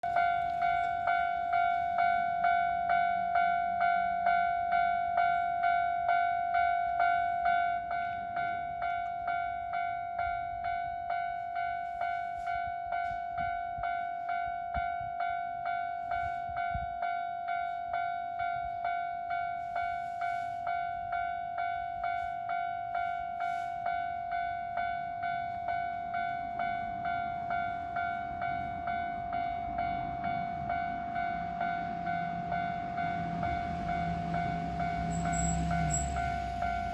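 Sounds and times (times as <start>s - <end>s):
level-crossing warning bell ringing: 0.0s - 36.9s.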